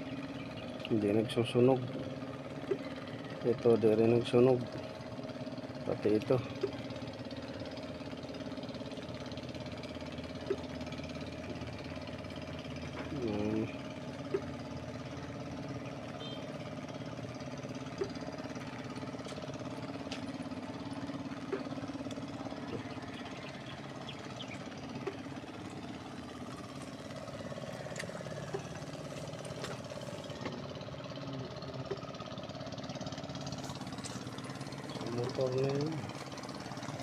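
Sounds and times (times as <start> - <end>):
small engine idling: 0.0 - 37.0.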